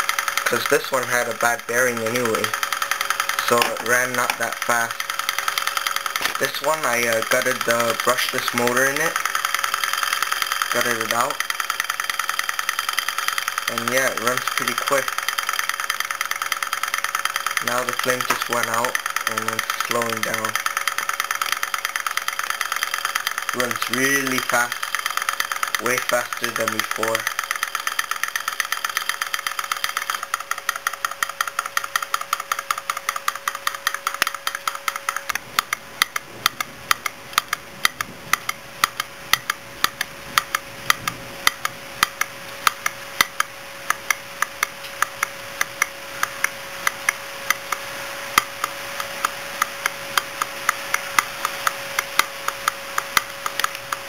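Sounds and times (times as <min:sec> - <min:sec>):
engine moving parts ticking: 0:00.0 - 0:54.0
faint steady hum: 0:00.0 - 0:54.0.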